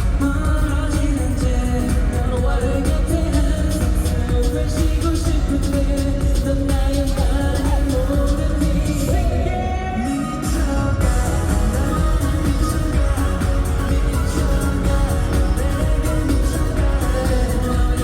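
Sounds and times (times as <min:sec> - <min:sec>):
boy group singing pop song: 0:00.0 - 0:18.0
heavy beat and bass: 0:00.0 - 0:18.0.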